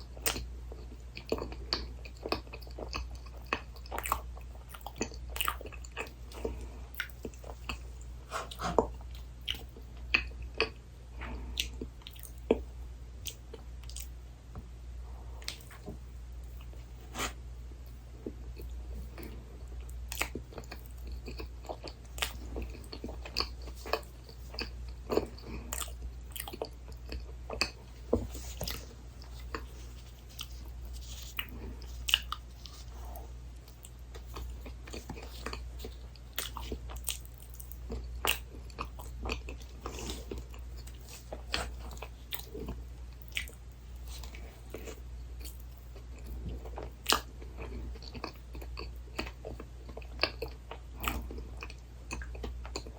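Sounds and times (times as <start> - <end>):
close chewing and crunching: 0.0 - 14.2, 15.3 - 52.9
steady low hum: 0.0 - 52.9.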